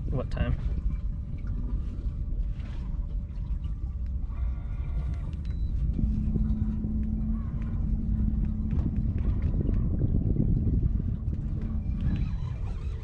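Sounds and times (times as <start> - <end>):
boat motor rumbling: 0.0 - 13.0
steady hum: 0.0 - 13.0.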